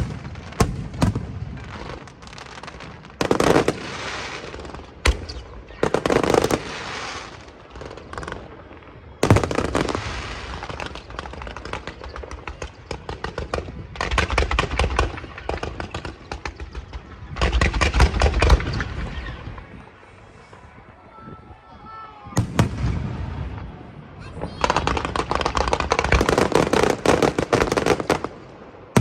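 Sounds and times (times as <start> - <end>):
fireworks cracking and banging: 0.0 - 19.8, 22.4 - 29.0
fireworks crackling: 0.0 - 20.9, 22.0 - 29.0.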